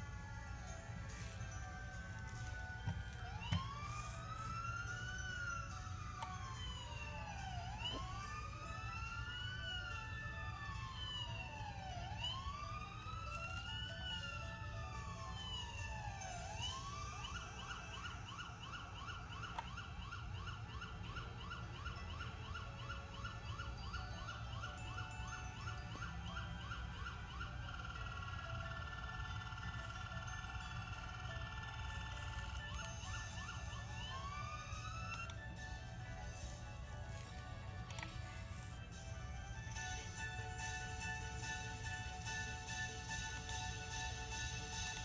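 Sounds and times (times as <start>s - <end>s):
fire engine siren: 0.0s - 45.0s.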